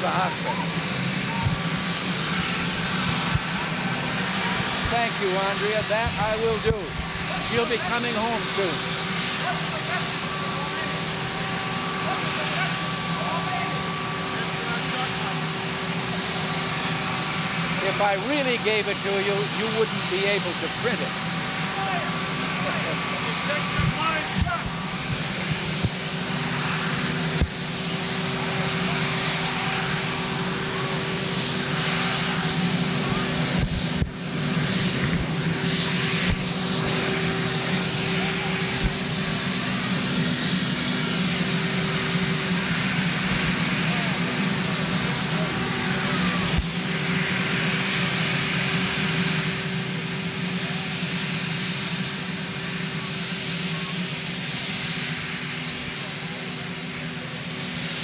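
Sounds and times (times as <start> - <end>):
helicopter turbine engines running: 0.0 - 58.0.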